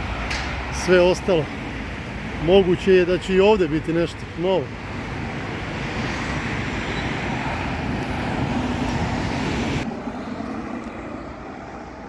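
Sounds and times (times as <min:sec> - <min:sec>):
road traffic hiss: 0:00.0 - 0:12.0.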